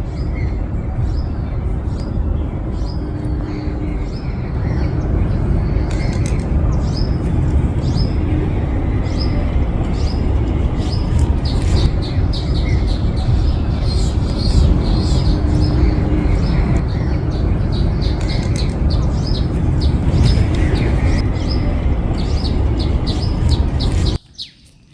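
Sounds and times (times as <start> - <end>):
steady low rumble: 0.0 - 24.2
small birds chirping: 0.0 - 24.9.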